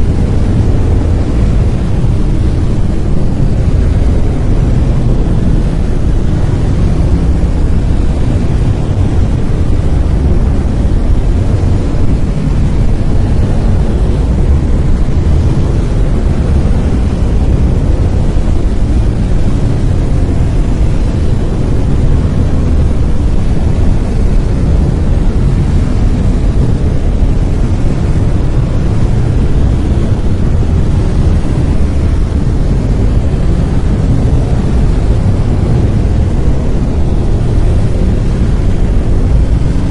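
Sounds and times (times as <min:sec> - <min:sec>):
deep rushing brown noise: 0:00.0 - 0:39.9.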